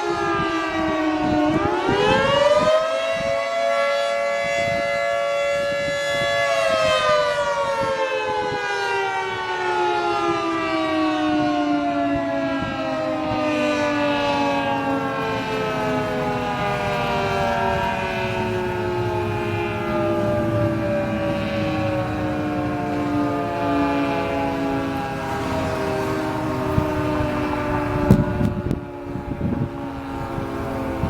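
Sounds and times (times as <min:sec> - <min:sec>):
dual-tone warning siren wailing: 0:00.0 - 0:31.0.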